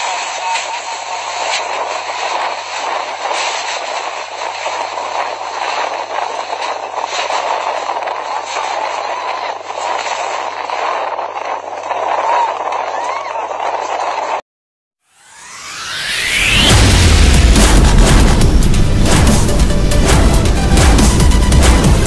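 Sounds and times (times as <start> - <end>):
tornado wind roaring: 0.0 - 14.4, 15.4 - 22.0.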